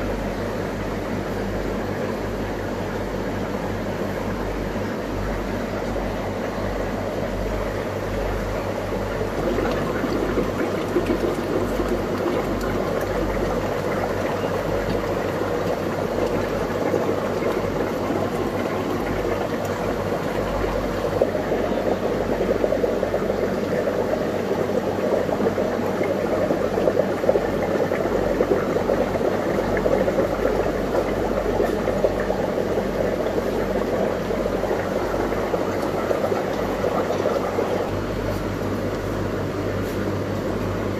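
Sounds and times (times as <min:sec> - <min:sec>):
bubbling and trickling water: 0:00.0 - 0:40.9
low pump hum: 0:00.0 - 0:40.9.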